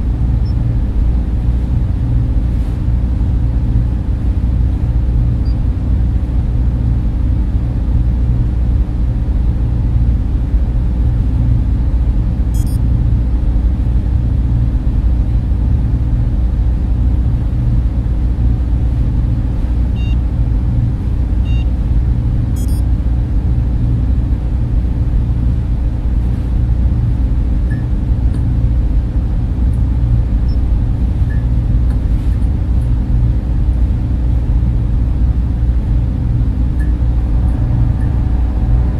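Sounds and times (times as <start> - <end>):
cooling fans droning: 0.0 - 38.9
faint hum: 0.0 - 38.9.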